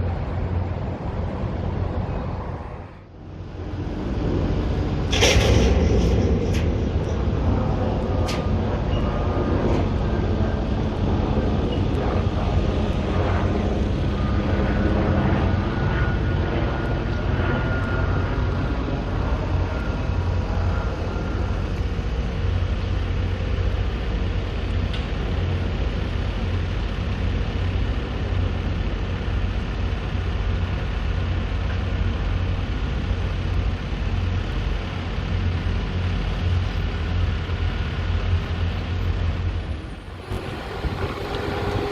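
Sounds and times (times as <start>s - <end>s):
road vehicle rumble: 0.0s - 41.9s.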